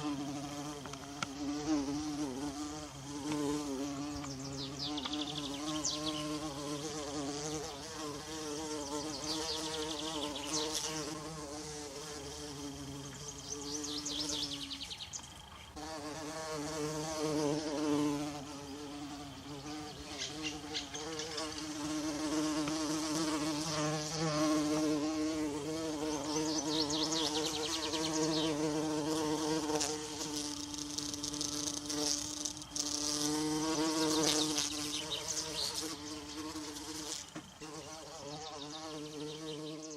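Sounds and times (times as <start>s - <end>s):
bumblebee buzzing: 0.0s - 39.9s.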